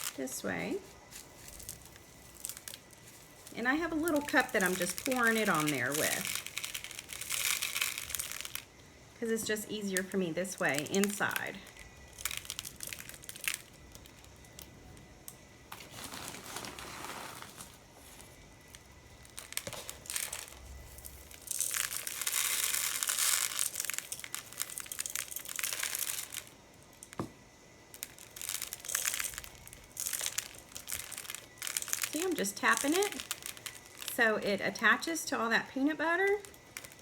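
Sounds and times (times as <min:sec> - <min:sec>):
birdseed pattering and rustling: 0:00.0 - 0:27.3, 0:27.9 - 0:37.0.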